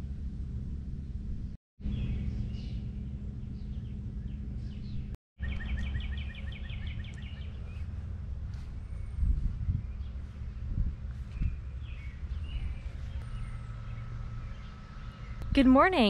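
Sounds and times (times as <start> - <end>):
low rumble and hum: 0.0 - 16.0
songbirds chirping: 1.8 - 16.0.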